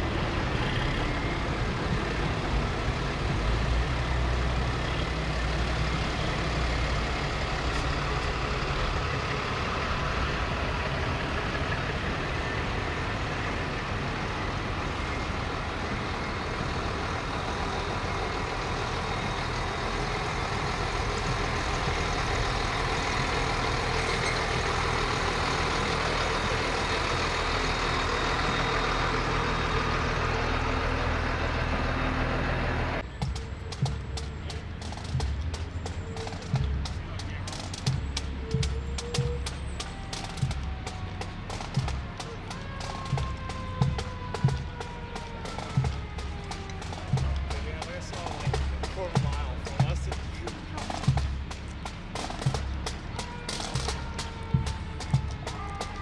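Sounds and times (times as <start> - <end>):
diesel truck engines running: 0.0 - 56.0.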